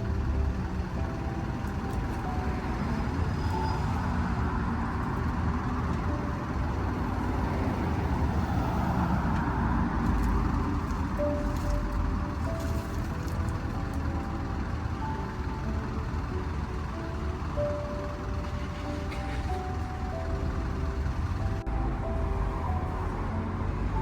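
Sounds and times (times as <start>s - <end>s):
road vehicle rumbling: 0.0s - 24.0s.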